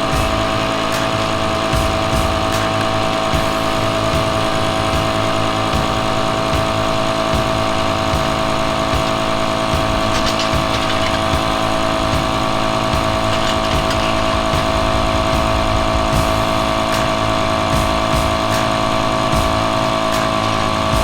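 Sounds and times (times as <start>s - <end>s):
motor whining: 0.0s - 21.0s.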